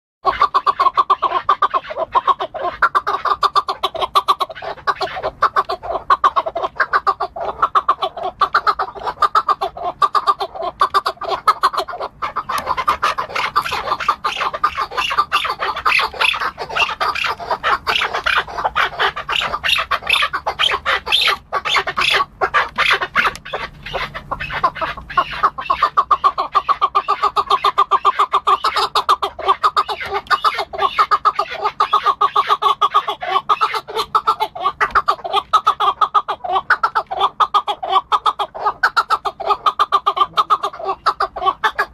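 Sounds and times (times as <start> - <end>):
partridge calling: 0.2 - 41.9.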